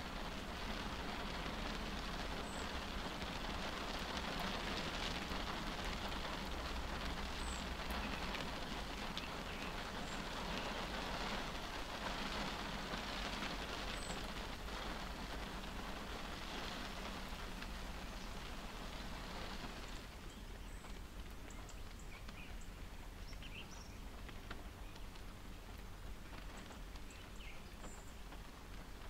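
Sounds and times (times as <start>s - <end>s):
rain on a car roof: 0.0s - 29.0s.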